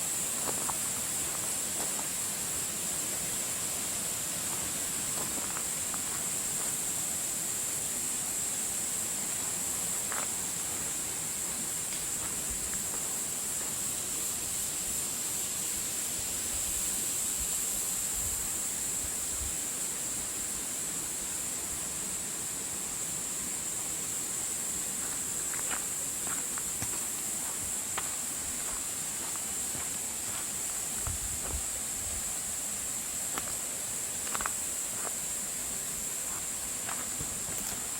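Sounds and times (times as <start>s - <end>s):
forest ambience hiss: 0.0s - 37.9s.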